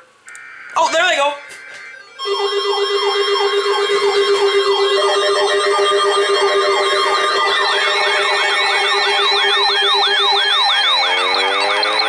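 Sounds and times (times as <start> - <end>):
steady alarm tone: 0.2 - 12.0
sweeping electronic alarm tones: 0.3 - 12.0.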